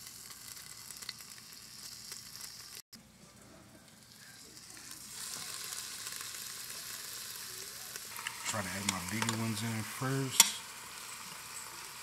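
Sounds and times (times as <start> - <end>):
meat sizzling in hot oil: 0.0 - 2.8, 4.0 - 12.0.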